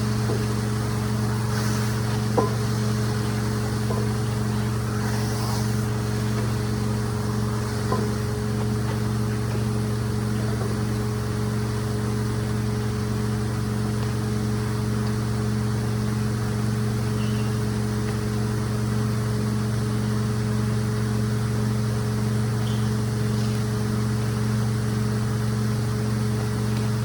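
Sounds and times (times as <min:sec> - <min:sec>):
rug-cleaning machine hum and hiss: 0:00.0 - 0:27.0.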